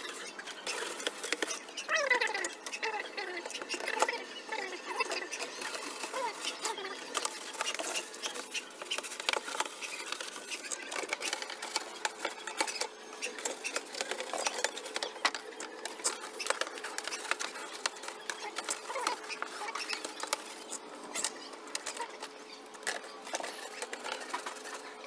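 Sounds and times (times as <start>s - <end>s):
brush scrubbing plastic: 0.1s - 22.2s.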